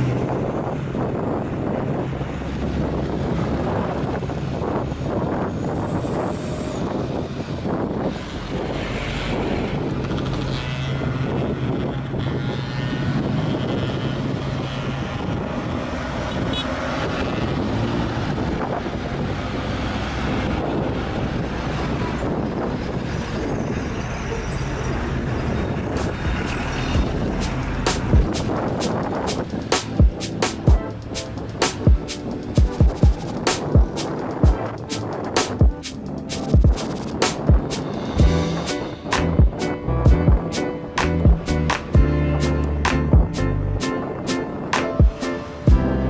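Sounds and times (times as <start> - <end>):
diesel truck engine drone: 0.0 - 46.0
road and tyre noise: 0.0 - 46.0.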